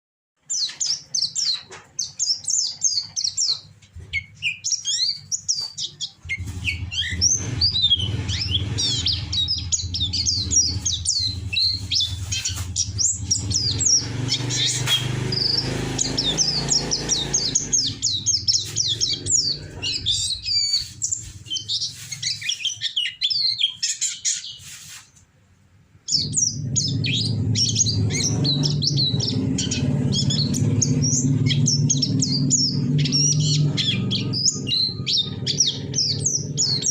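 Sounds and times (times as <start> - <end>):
bird chirps and whistles: 0.5 - 24.7, 26.1 - 36.9.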